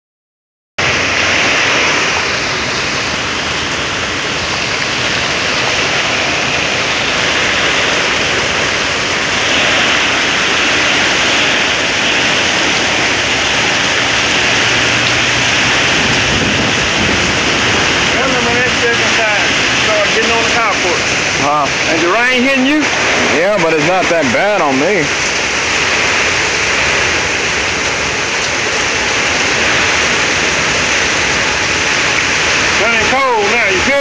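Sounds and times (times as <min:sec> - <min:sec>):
heavy rain: 0:00.8 - 0:34.0
strong wind: 0:00.8 - 0:34.0.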